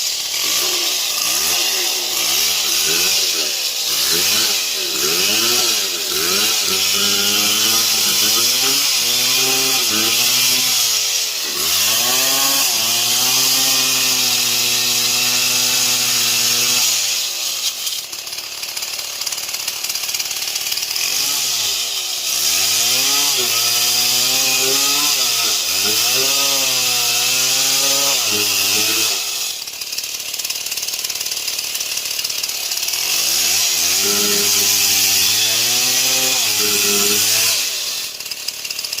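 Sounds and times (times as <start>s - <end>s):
chainsaw sawing wood: 0.0s - 39.0s.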